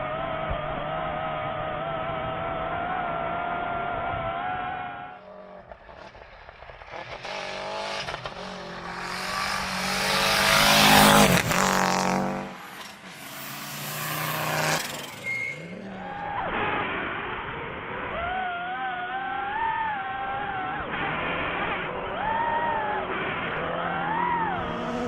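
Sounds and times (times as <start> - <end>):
rally car engine at high revs: 0.0 - 25.0.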